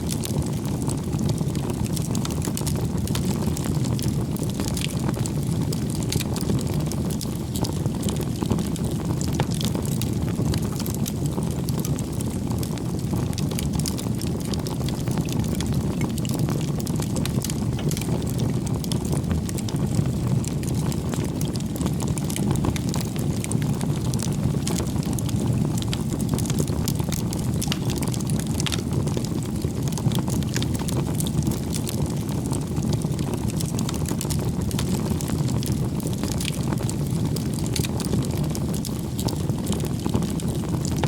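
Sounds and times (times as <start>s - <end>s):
flames rushing: 0.0s - 41.0s
wood crackling and popping: 0.0s - 41.0s.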